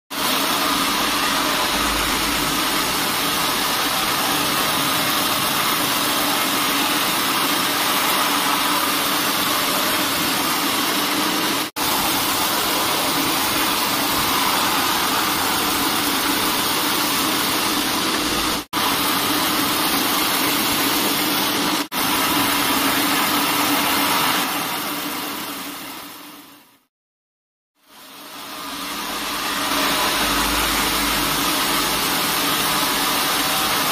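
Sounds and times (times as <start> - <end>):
sawmill machine noise: 0.1 - 26.5, 27.9 - 33.9.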